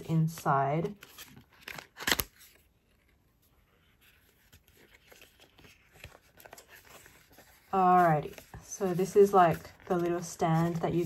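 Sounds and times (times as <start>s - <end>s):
cardboard packaging rustling: 0.4s - 11.0s.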